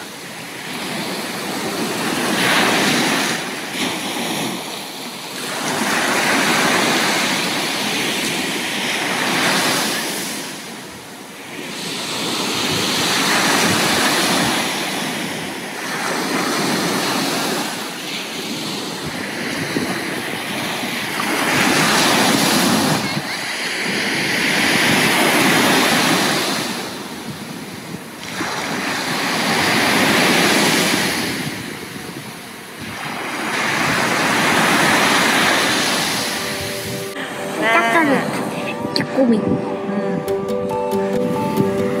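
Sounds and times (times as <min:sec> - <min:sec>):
small waves breaking on beach: 0:00.0 - 0:38.8.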